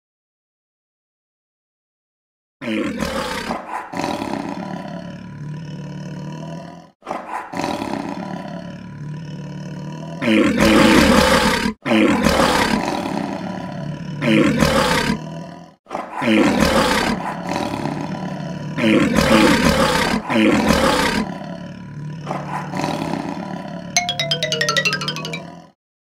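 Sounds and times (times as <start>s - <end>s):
loud animal roars: 2.6s - 24.0s.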